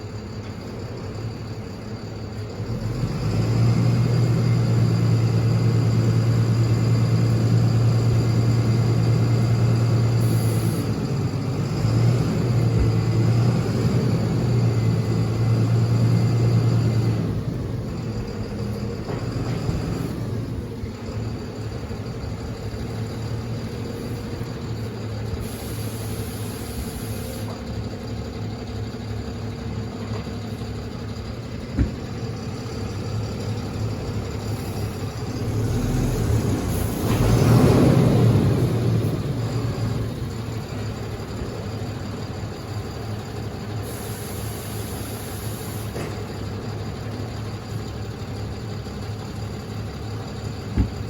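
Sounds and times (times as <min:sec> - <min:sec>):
farm vehicle engine running: 0:00.0 - 0:51.0.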